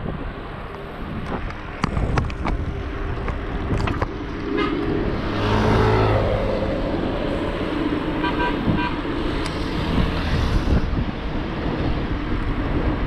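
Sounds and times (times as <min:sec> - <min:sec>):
motor vehicle engine: 0:01.6 - 0:13.0.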